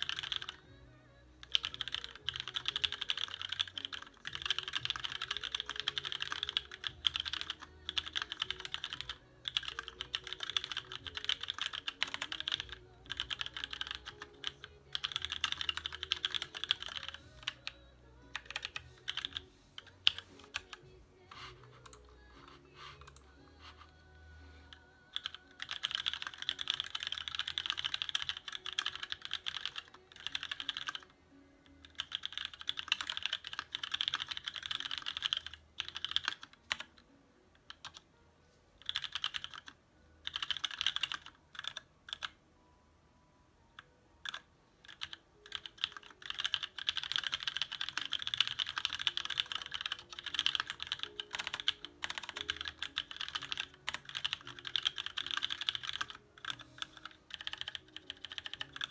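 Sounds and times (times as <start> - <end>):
mechanical keyboard typing: 0.0 - 0.8, 1.4 - 24.0, 24.6 - 37.0, 37.6 - 38.1, 38.8 - 42.4, 43.8 - 58.9
faint music: 0.0 - 58.9.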